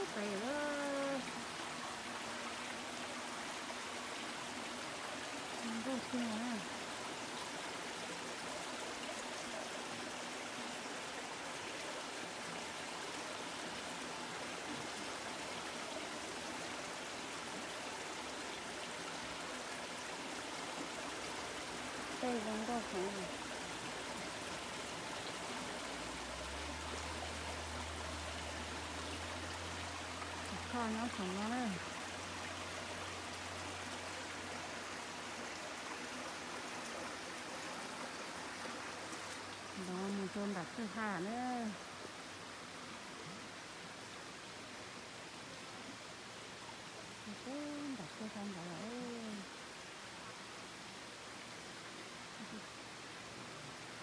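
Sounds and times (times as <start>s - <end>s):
creek water over rocks: 0.0s - 54.0s.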